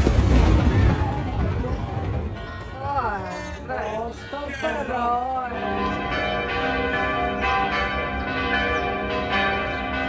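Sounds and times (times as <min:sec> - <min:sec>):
church bells ringing: 0:01.9 - 0:10.0.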